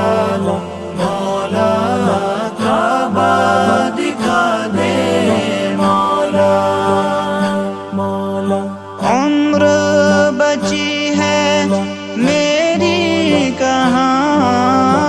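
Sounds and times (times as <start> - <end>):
vocal drone: 0.0 - 15.0
wordless sung melody: 0.0 - 15.0.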